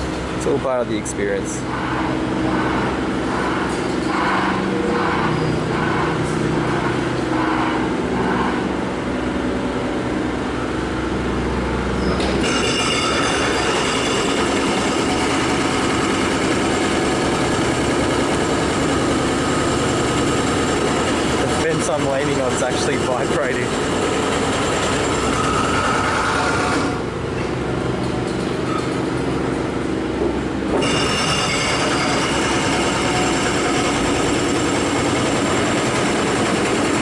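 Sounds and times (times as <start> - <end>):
pulsing machinery drone: 0.0 - 37.0.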